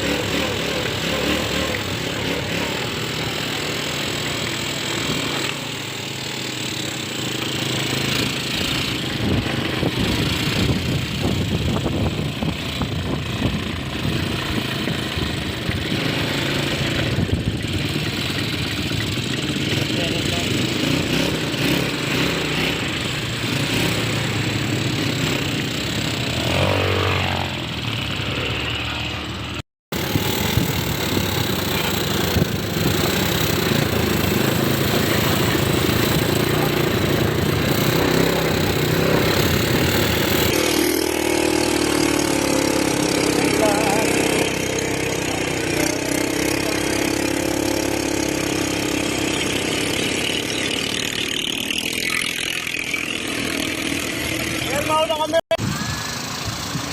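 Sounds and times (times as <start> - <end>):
atv engines running: 0.0 - 56.9.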